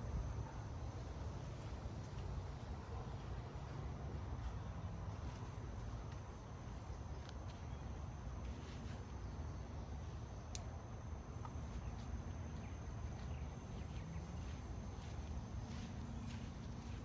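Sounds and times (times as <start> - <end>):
faint high insect-like tone: 0.0 - 17.0
faint rustles and ticks: 0.9 - 9.4, 11.4 - 17.0.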